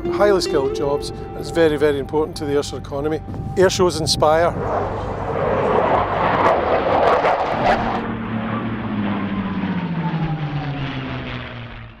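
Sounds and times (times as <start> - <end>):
aircraft flying past: 0.0 - 12.0.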